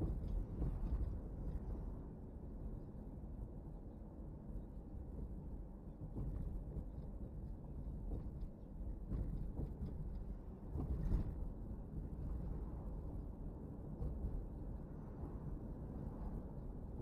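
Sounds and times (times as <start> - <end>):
car road and tyre rumble: 0.0 - 17.0.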